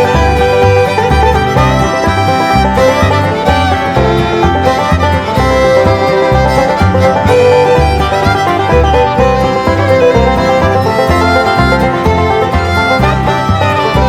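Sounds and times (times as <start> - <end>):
upbeat bluegrass music: 0.0 - 14.0.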